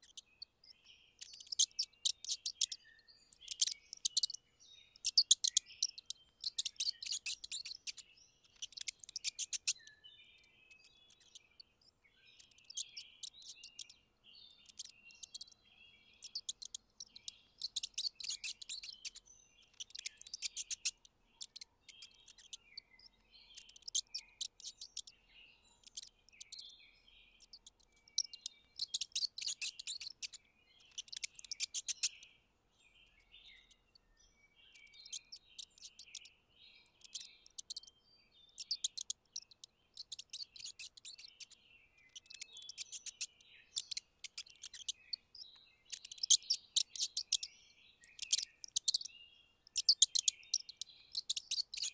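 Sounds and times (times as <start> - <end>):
mice squeaking: 0.0 - 32.3, 34.7 - 51.9.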